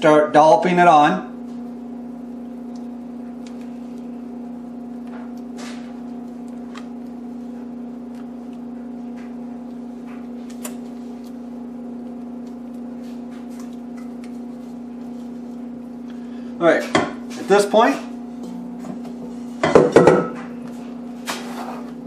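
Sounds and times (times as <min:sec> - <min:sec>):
appliance hum: 0:00.0 - 0:22.0.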